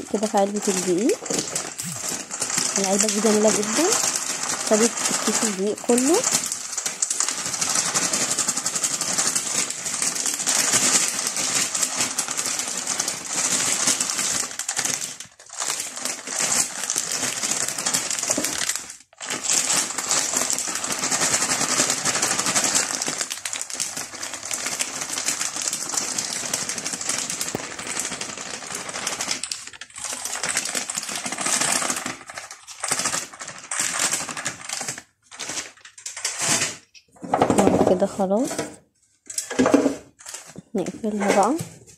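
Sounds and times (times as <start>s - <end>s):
plastic bag crinkling and rustling: 0.0s - 41.9s.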